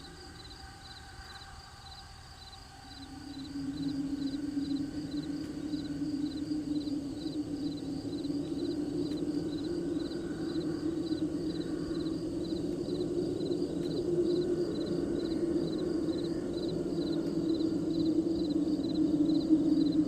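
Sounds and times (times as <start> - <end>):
crickets chirping: 0.0 - 20.0
steady low hum: 0.0 - 20.0.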